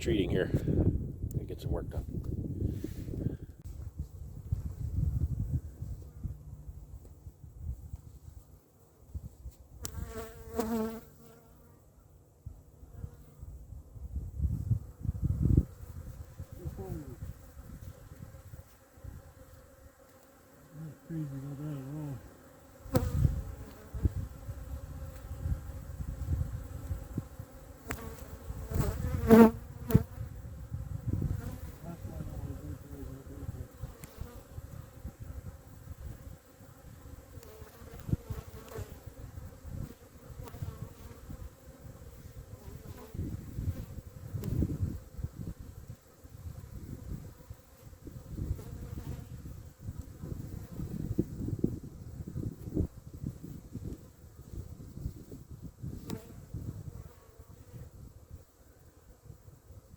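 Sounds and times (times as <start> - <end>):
wind rumbling on microphone: 0.0 - 8.5, 13.4 - 19.5, 22.9 - 37.2, 37.9 - 58.5
honeybees buzzing: 9.8 - 59.9.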